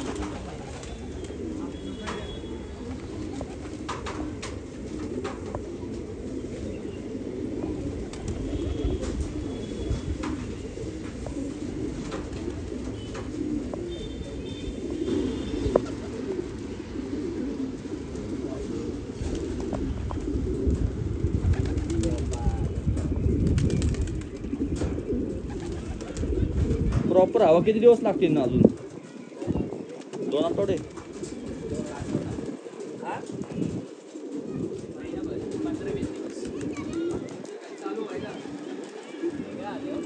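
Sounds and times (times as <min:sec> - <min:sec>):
pigeons cooing: 0:00.0 - 0:40.0.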